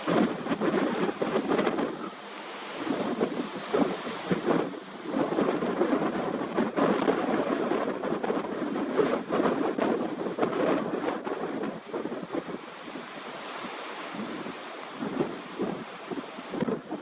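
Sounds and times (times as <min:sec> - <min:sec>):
wind gusting across microphone: 0:00.0 - 0:17.0.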